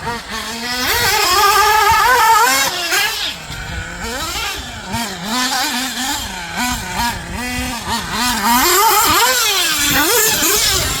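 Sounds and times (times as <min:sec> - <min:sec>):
small nitro engines revving: 0:00.0 - 0:11.0.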